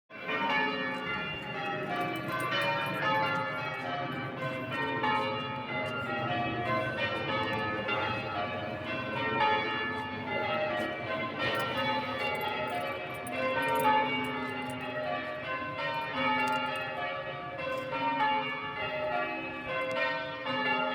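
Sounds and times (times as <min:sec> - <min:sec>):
church bells ringing: 0:00.1 - 0:20.9.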